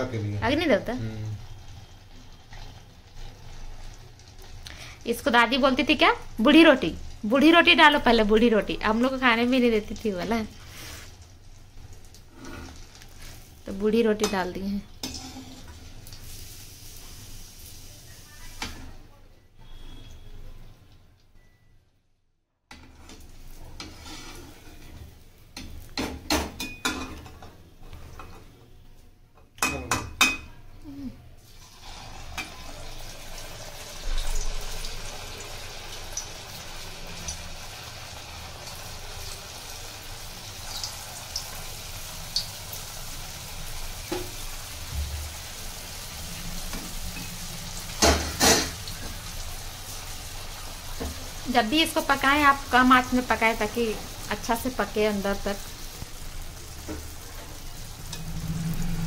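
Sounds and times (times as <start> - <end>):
dough deep-frying in hot oil: 0.0 - 21.8, 22.7 - 28.9, 29.5 - 59.0.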